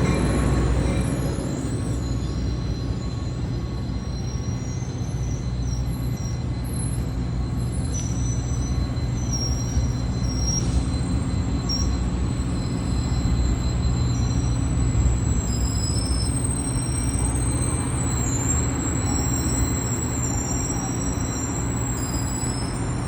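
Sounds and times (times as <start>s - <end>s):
high-pitched wheel squeals: 0.0s - 23.0s
train rumbling past: 0.0s - 23.0s.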